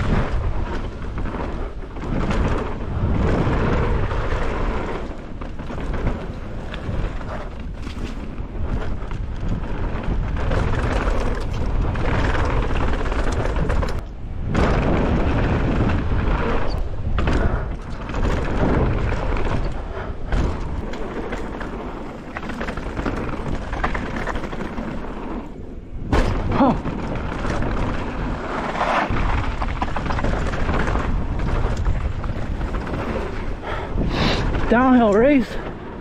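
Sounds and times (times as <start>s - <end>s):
bike hard jolt: 0.0s - 36.0s
bike rattling over bumps: 0.0s - 36.0s
tyres on dirt: 0.0s - 36.0s
wind buffeting microphone: 0.0s - 36.0s.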